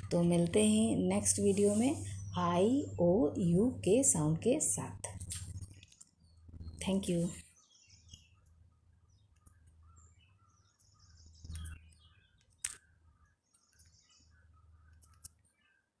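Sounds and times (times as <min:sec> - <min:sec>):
low steady hum: 0:00.0 - 0:15.4
faint bird chirping: 0:00.0 - 0:16.0.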